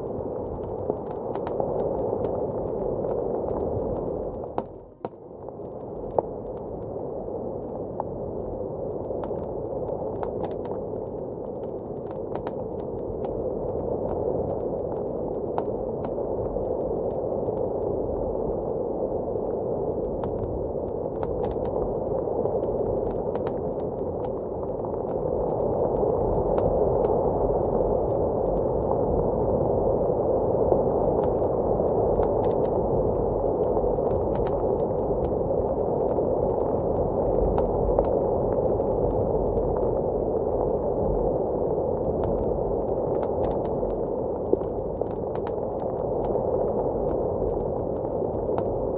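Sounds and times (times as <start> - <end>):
blizzard wind rushing: 5.9 - 48.9.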